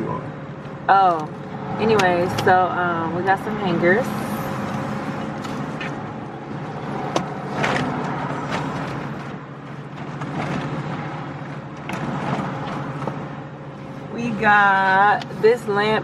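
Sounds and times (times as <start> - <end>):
car hum: 0.0 - 16.0.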